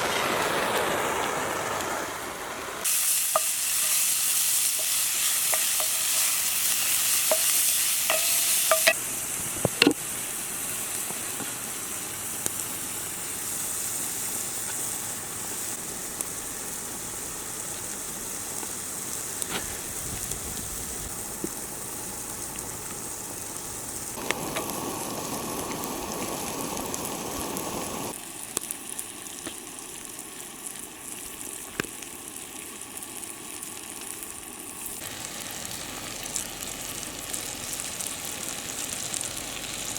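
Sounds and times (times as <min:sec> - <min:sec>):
meat sizzling in a skillet: 0:00.0 - 0:39.9.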